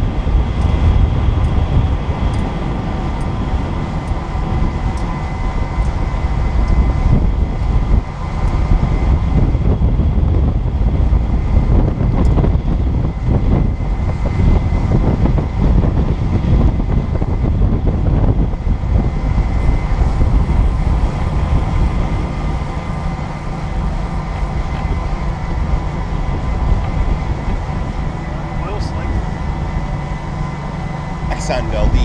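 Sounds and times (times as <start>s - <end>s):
boat motor running: 0.0s - 32.0s
wind rushing over microphone: 0.0s - 32.0s.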